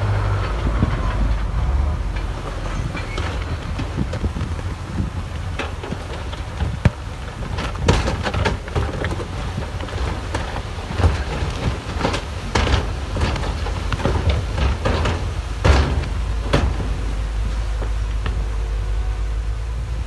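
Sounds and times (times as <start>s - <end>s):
metallic clanks and knocks: 0.0s - 18.6s
low diesel rumble: 0.0s - 20.0s.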